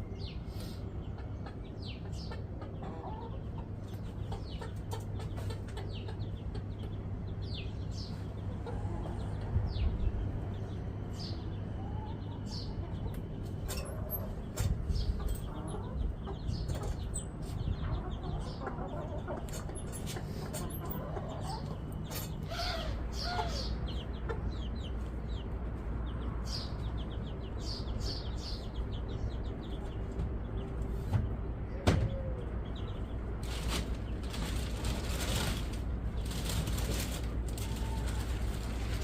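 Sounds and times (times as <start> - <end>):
small birds chirping: 0.0 - 39.0
chickens clucking: 0.2 - 39.0.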